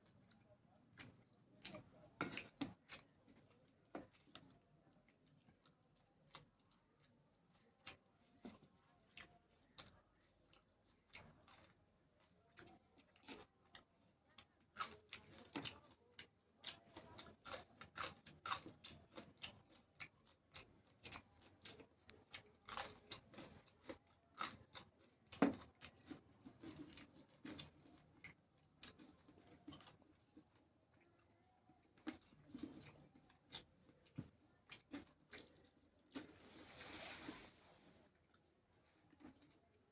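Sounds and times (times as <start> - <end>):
person chewing crunchy vegetables: 5.0 - 31.2, 31.8 - 36.4, 38.2 - 39.8.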